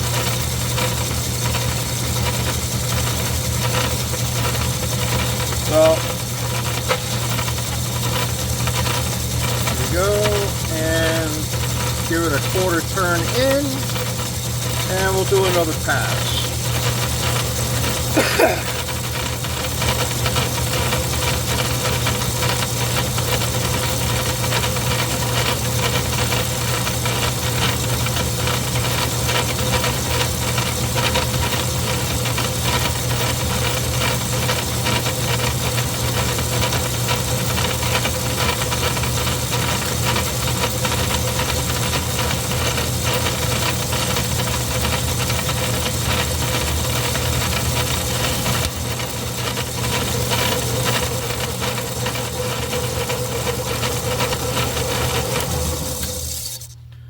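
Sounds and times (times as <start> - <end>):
metal lathe cutting: 0.0 - 56.8.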